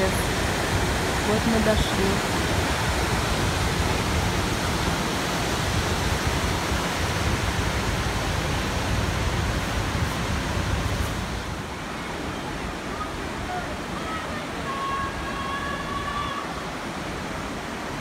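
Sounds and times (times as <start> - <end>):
white water rushing: 0.0 - 18.0.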